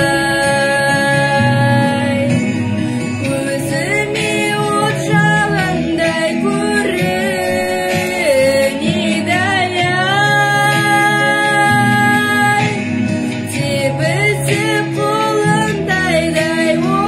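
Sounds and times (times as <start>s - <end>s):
musical accompaniment: 0.0s - 17.0s.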